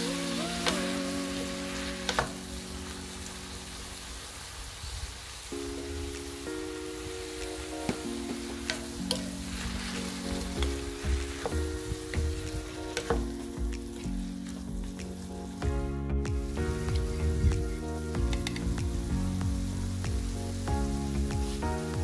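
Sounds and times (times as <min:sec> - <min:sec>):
background music: 0:00.0 - 0:04.8, 0:05.4 - 0:22.0
vegetables sizzling in oil: 0:00.0 - 0:15.8, 0:16.4 - 0:22.0.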